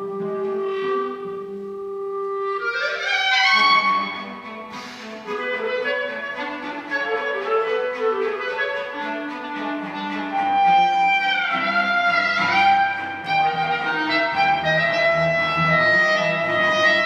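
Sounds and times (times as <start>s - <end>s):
cello: 0.0s - 17.0s
clarinet: 0.0s - 17.0s.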